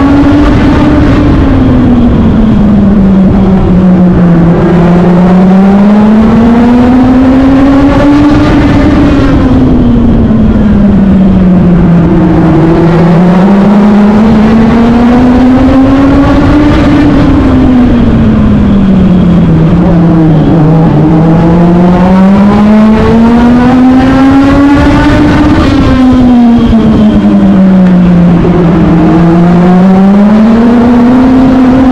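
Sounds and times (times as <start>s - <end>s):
race car engine at full throttle: 0.0s - 31.9s.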